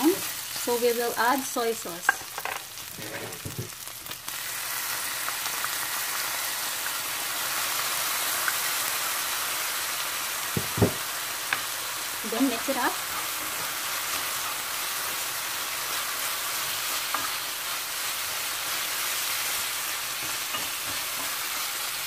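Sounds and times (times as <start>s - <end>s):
meat frying in oil: 0.0s - 22.0s
sauce sizzling in hot pan: 0.0s - 22.0s.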